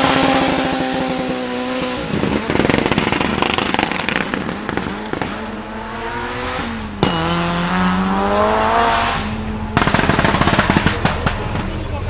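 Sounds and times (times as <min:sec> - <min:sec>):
sharp exhaust crack: 0:00.0 - 0:05.7, 0:06.7 - 0:12.0
car engine revving: 0:00.0 - 0:12.0
exhaust crackling: 0:00.0 - 0:12.0.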